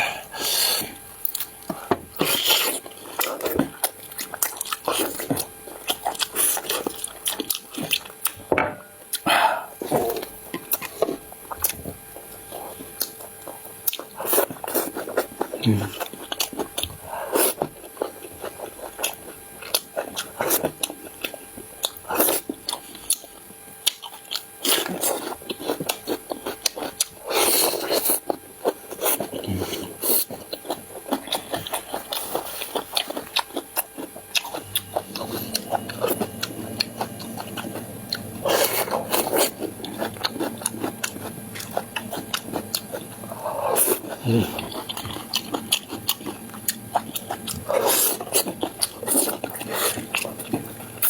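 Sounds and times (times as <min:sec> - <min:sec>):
person chewing and biting: 0:00.0 - 0:51.0.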